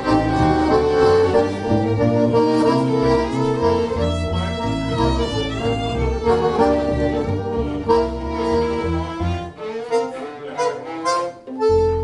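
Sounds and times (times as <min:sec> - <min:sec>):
accordion: 0:00.0 - 0:12.0
bowed viola melody: 0:00.0 - 0:12.0
walking double bass: 0:00.0 - 0:12.0.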